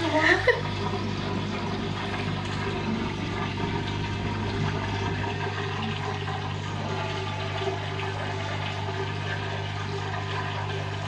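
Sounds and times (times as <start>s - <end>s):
washing machine drain pump humming: 0.0s - 11.0s.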